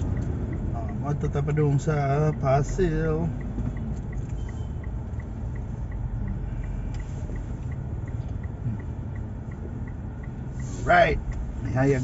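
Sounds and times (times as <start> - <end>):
car engine and tyres rumbling: 0.0 - 12.0
faint even ticking: 0.0 - 12.0.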